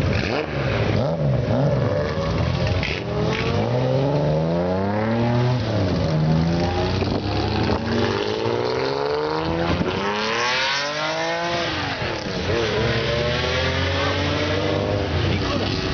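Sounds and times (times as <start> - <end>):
car engine accelerating hard: 0.0 - 15.9.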